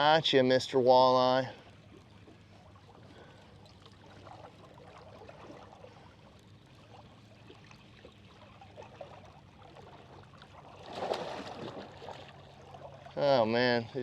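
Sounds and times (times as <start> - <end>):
boat motor humming: 0.0 - 14.0
water splashing and trickling: 0.0 - 14.0.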